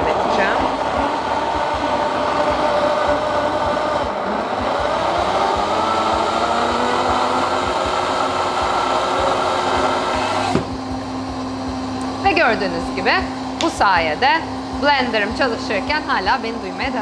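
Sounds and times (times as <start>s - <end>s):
blender motor whirring: 0.0s - 17.0s.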